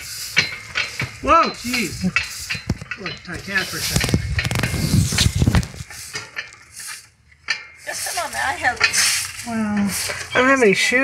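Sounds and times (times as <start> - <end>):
broom sweeping pavement: 0.0 - 10.8
metal mesh trailer rattling: 0.0 - 11.0.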